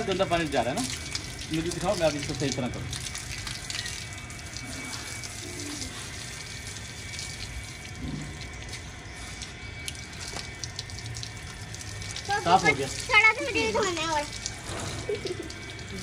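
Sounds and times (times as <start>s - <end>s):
water splashing on paving: 0.0s - 16.0s
water spraying from hose: 0.0s - 16.0s.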